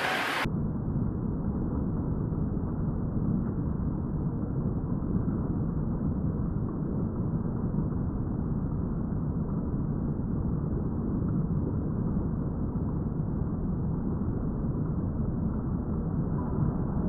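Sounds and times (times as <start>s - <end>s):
steady low noise: 0.0s - 17.0s.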